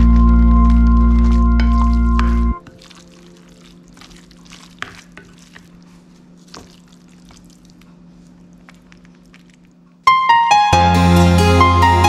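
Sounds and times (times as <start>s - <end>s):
spoon scraping wet stuffing: 0.0s - 9.9s
faint steady hum: 0.0s - 10.4s.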